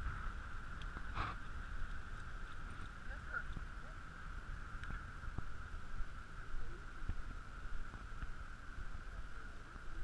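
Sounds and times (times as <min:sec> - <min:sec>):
faint high whine: 0:00.0 - 0:10.0
wind rumble on microphone: 0:00.0 - 0:10.0.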